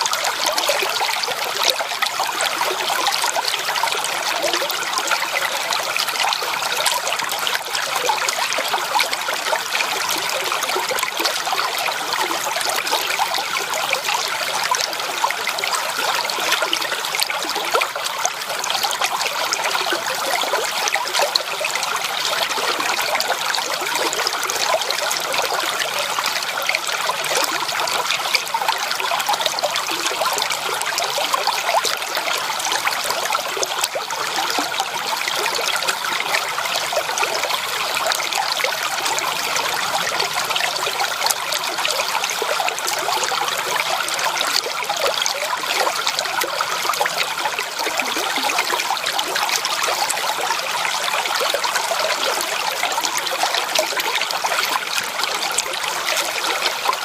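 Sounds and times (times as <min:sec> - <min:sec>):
creek water babbling over stones: 0:00.0 - 0:57.0.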